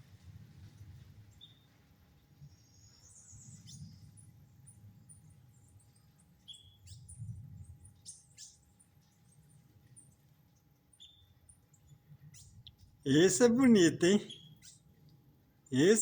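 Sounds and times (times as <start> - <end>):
small birds chirping: 1.3 - 16.0.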